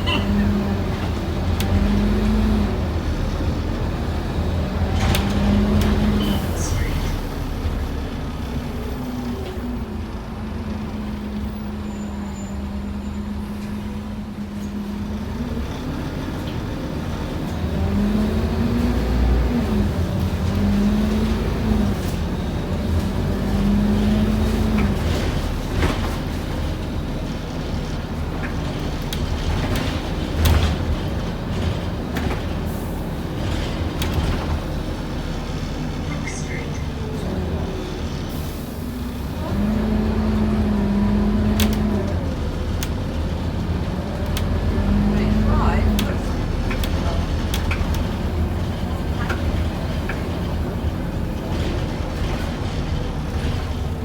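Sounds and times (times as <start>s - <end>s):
bus engine rumble and whine: 0.0s - 54.0s.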